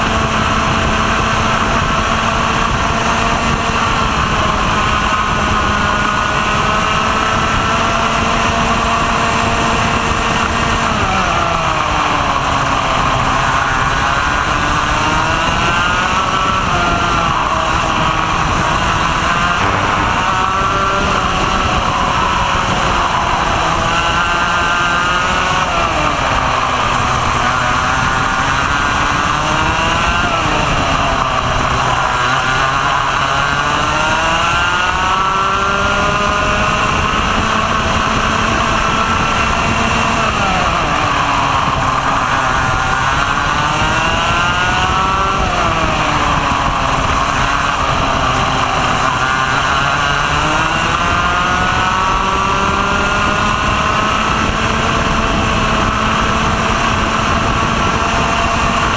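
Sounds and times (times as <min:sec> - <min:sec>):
two-stroke kart engine racing: 0:00.0 - 0:58.9.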